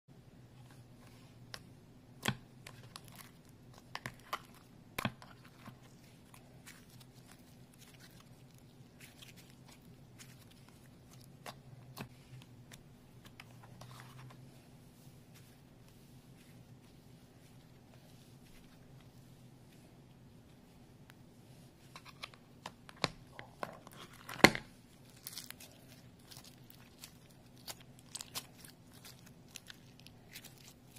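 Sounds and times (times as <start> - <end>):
faint low hum: 0.1 - 30.9.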